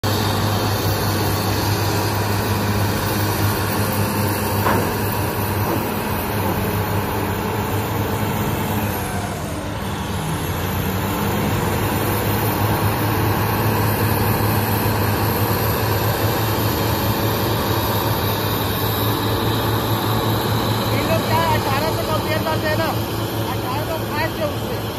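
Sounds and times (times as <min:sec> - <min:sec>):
heavy diesel engines droning: 0:00.0 - 0:24.9.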